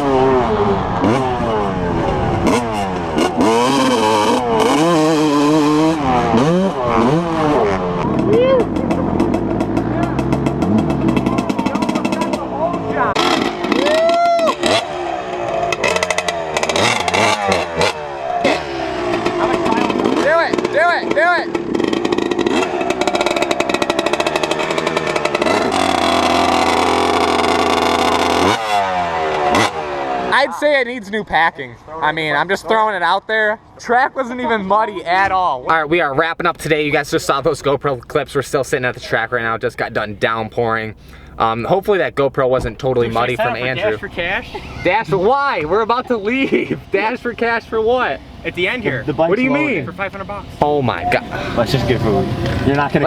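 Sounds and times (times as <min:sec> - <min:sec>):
pit bike engine revving: 0:00.0 - 0:30.6, 0:35.7 - 0:53.0.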